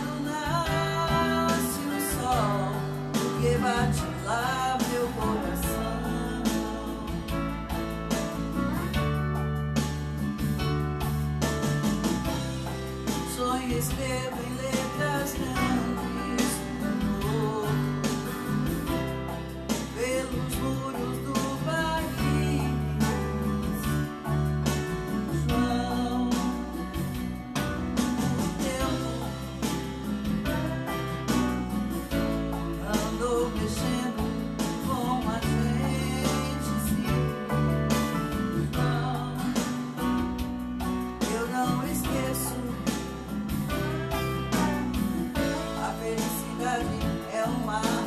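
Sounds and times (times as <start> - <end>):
woman singing: 0.0 - 7.9, 13.2 - 18.8, 19.8 - 27.3, 28.2 - 40.4, 41.2 - 48.0
guitar backing track: 0.0 - 48.0.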